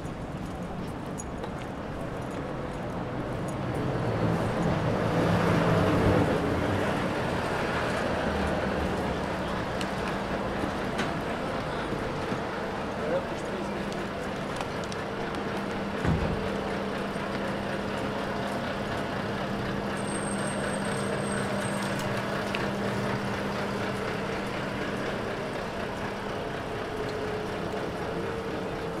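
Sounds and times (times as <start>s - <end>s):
city street noise: 0.0s - 29.0s
engine humming: 0.0s - 29.0s.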